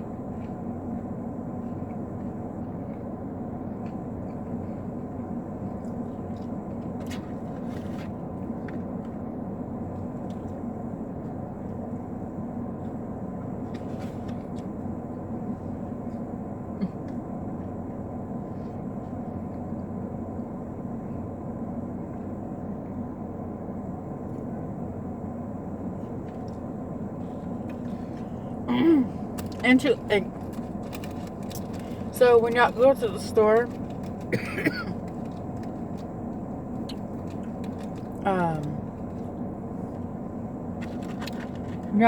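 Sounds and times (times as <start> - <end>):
low hum inside car: 0.0 - 42.0.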